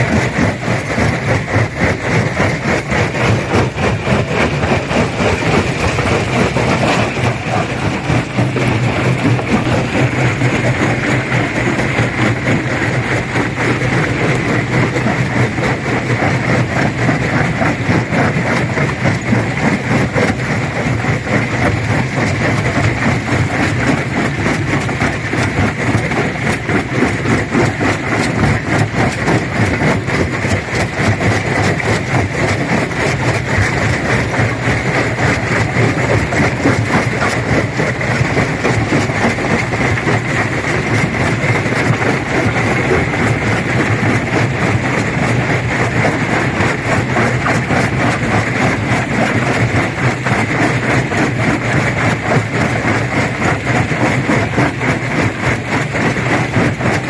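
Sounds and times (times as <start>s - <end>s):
stone crusher machine drone: 0.0s - 57.0s.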